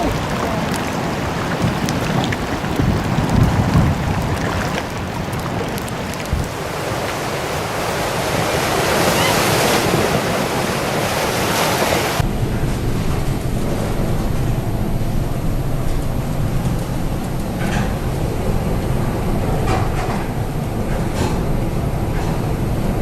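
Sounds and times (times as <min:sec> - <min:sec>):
wind and rough sea: 0:00.0 - 0:23.0.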